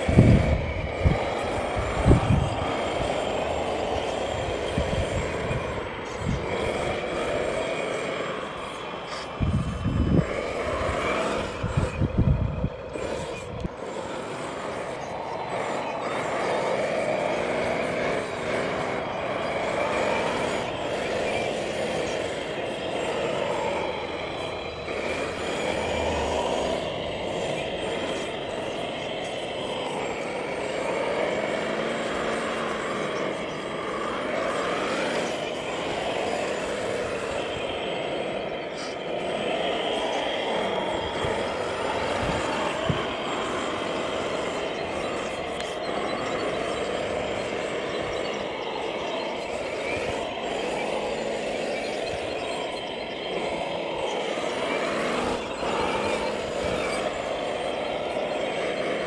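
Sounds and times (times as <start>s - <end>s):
loud low rumbling bursts: 0.0s - 59.0s
model construction machines running: 0.0s - 59.0s.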